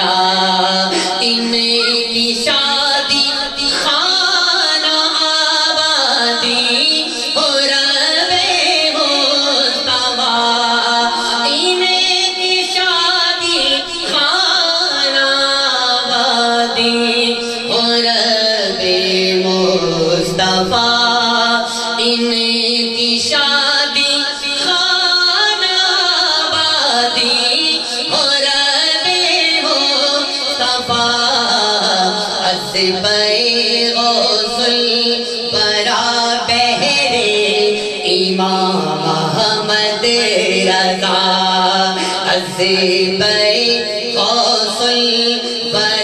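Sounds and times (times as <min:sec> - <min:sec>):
man singing into a microphone: 0:00.0 - 0:46.0.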